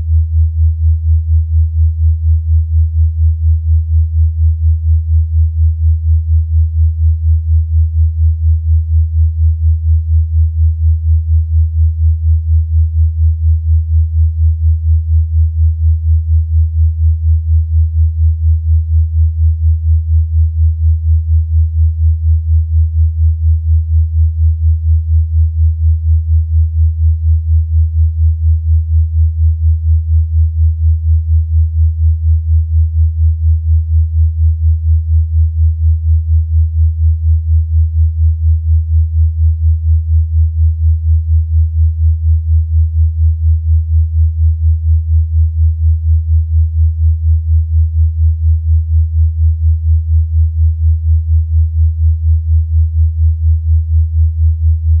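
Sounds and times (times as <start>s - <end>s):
pulsing low sine tone: 0.0s - 55.0s.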